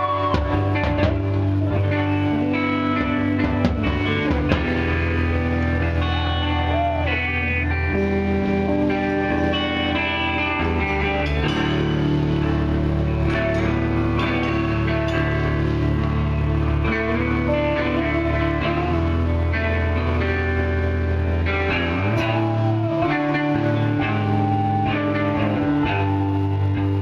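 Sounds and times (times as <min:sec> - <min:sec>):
electric guitars ringing chords: 0:00.0 - 0:27.0
low sustained bass notes: 0:00.0 - 0:27.0.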